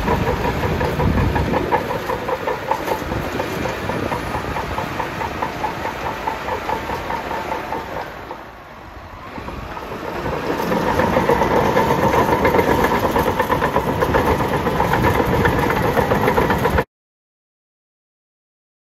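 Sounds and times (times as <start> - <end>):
bulldozer diesel engine running: 0.0 - 16.9
steel tracks clattering: 0.0 - 16.9.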